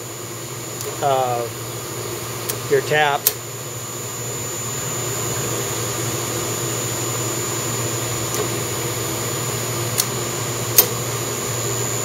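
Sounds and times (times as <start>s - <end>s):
high whine: 0.0s - 12.0s
milling machine spindle hum: 0.0s - 12.0s.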